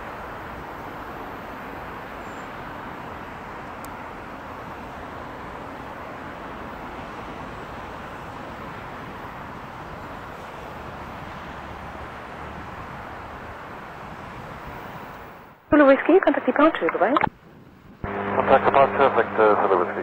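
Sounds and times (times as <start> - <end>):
jet engines at takeoff power: 0.0 - 20.0.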